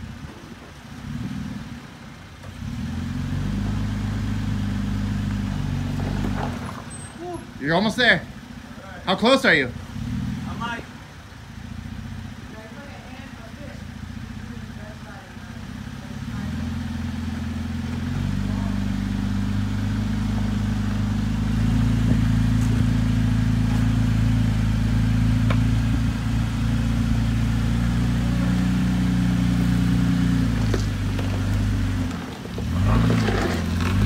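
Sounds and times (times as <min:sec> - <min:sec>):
truck engine revving: 0:00.9 - 0:12.6, 0:13.8 - 0:34.0.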